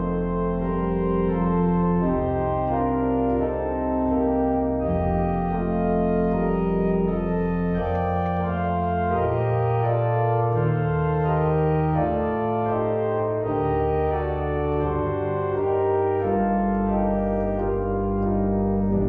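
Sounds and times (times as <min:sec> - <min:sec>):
organ pedal bass line: 0:00.0 - 0:19.0
organ playing sustained chords: 0:00.0 - 0:19.0.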